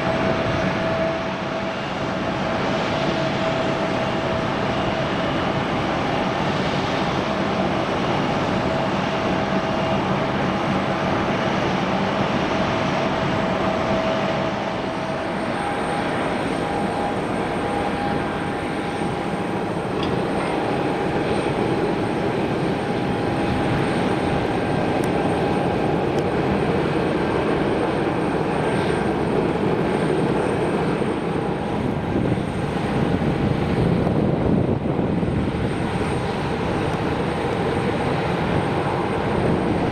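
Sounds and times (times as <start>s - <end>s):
jet aircraft whine: 0.0s - 39.9s.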